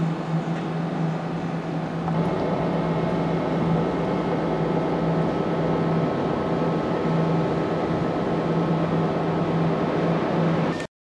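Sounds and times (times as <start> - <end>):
low drone: 0.0 - 10.9
steady hum with hiss: 0.0 - 10.9.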